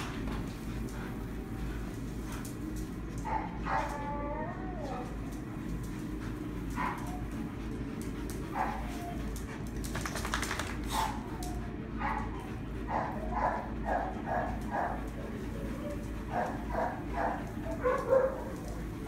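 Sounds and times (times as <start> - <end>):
dogs barking and yipping: 3.0 - 19.0.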